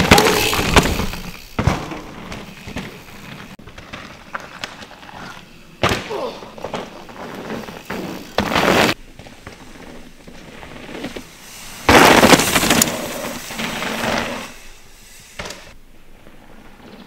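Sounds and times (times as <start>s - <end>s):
mountain bike rushing past: 0.0s - 17.0s.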